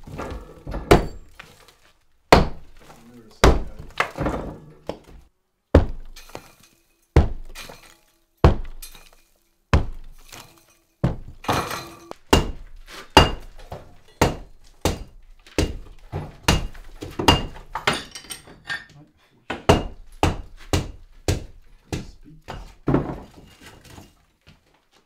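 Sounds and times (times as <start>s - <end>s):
sledgehammer hitting brick wall: 0.0s - 1.6s, 2.3s - 18.1s, 19.5s - 24.1s
breaking brick and falling rubble: 0.0s - 18.6s, 22.5s - 24.8s.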